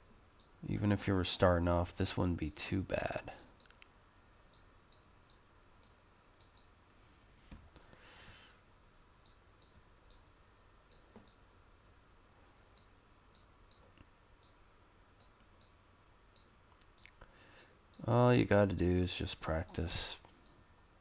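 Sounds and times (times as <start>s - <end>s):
soft rush of noise: 0.0s - 21.0s.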